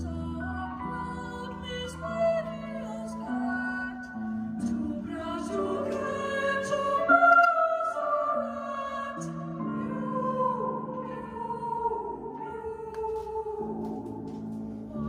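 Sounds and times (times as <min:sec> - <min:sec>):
slow music with long notes: 0:00.0 - 0:15.0.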